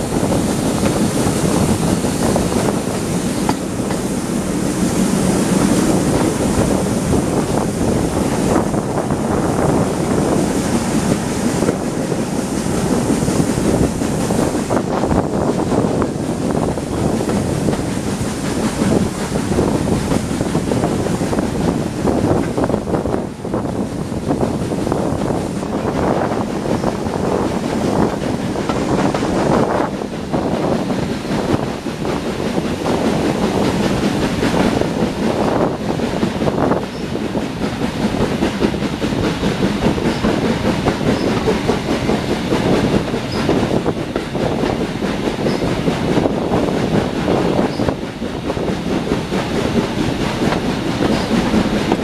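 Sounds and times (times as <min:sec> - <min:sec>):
rushing air: 0:00.0 - 0:52.0
train wheels on rails: 0:00.0 - 0:52.0.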